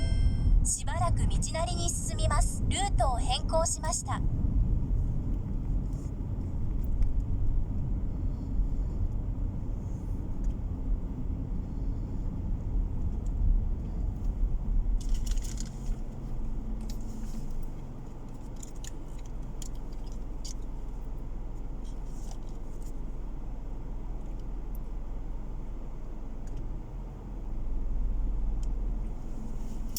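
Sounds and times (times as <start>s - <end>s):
car road and engine rumble: 0.0s - 29.9s.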